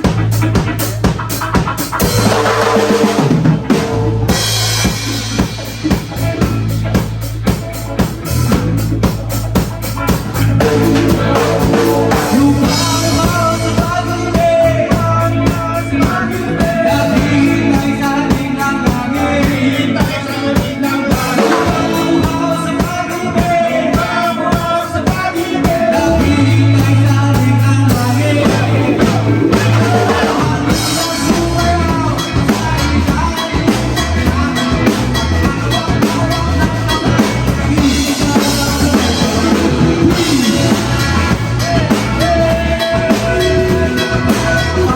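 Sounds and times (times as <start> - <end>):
drum kit beat: 0.0 - 44.9
live rock band playing: 0.0 - 44.9
person singing: 0.0 - 44.9.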